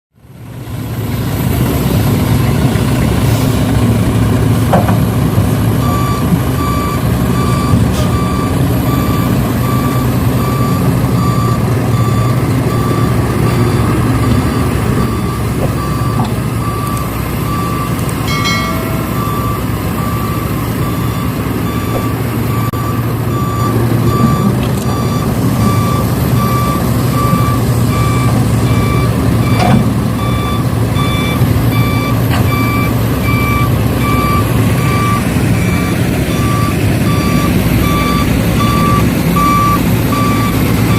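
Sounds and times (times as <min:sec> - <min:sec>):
low engine hum: 0:00.2 - 0:40.9
truck reversing alarm beeping: 0:03.8 - 0:40.9.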